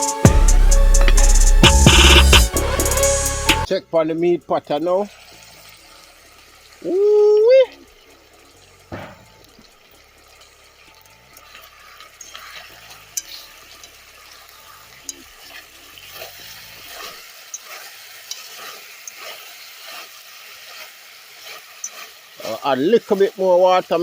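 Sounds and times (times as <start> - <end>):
chicken sizzling in a pot: 2.6 - 24.0.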